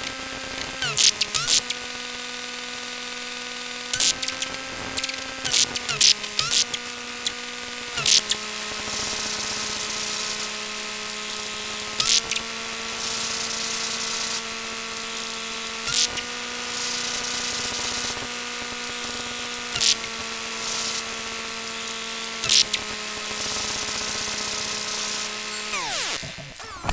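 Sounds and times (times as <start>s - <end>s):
camcorder electrical hum: 0.0s - 26.9s.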